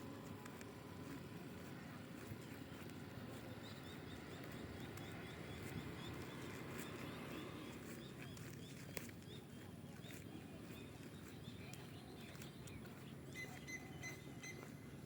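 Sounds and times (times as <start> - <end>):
small bird chirping: 2.4 - 14.9.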